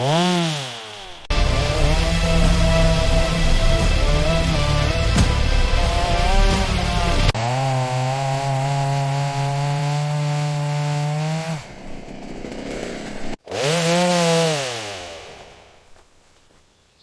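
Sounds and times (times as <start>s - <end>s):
chainsaw revving: 0.0s - 15.8s.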